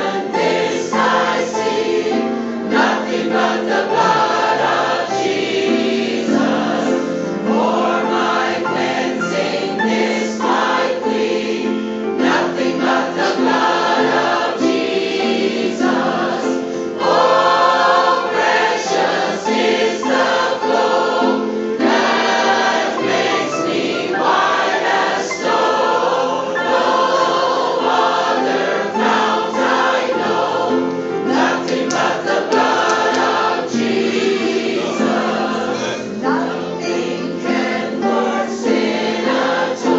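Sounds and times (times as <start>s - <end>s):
choir singing gospel: 0.0s - 39.9s.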